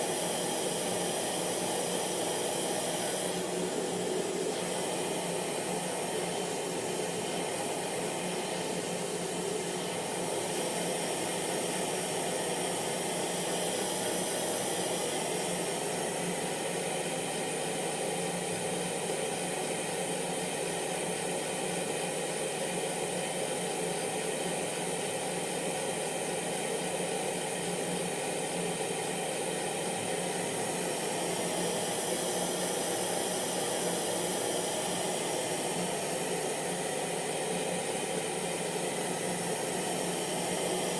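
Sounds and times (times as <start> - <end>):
hair dryer running: 0.0 - 20.1, 23.8 - 40.9.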